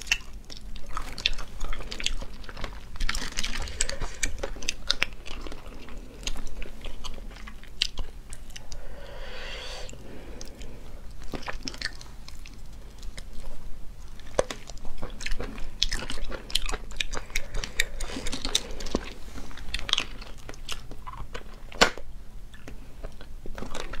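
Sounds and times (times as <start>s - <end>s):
sucking and chewing snails: 0.0s - 8.4s, 11.3s - 24.0s.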